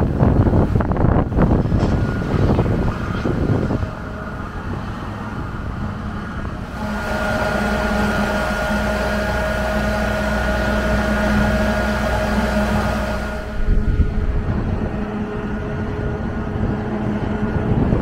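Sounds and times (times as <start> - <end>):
constant whining tone: 0.0 - 18.0
steady engine drone: 0.0 - 18.0
wind buffeting microphone: 0.0 - 18.0.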